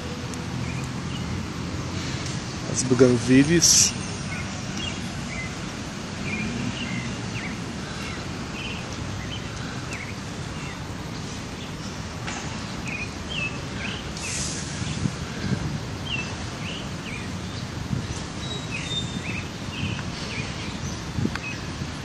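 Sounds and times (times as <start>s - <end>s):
outdoor background noise: 0.0s - 22.0s
small birds chirping: 0.6s - 21.8s.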